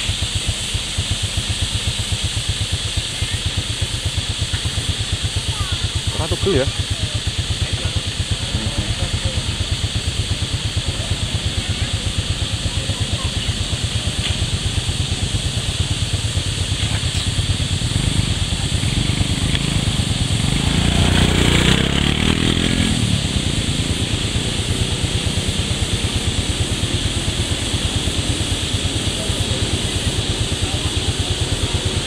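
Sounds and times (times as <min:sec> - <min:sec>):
motorcycle engine idling: 0:00.0 - 0:32.0
engine revving: 0:04.2 - 0:32.0.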